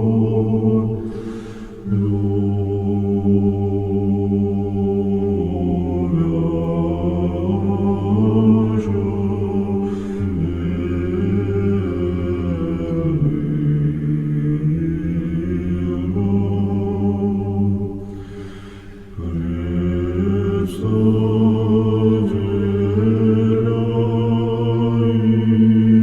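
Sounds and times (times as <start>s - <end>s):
choral chant sung a cappella: 0.0s - 26.0s.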